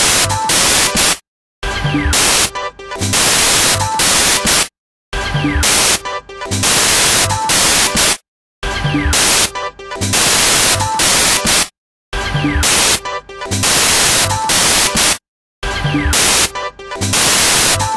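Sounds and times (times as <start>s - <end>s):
harsh electronic music: 0.0s - 11.7s, 12.3s - 17.9s.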